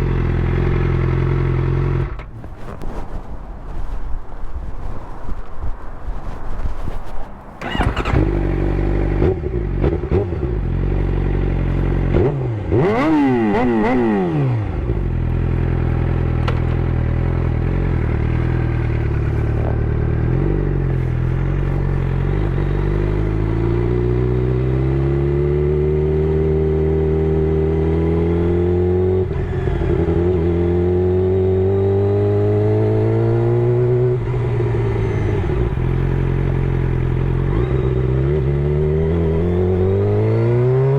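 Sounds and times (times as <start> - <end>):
motorcycle engine revving: 7.6 - 40.9.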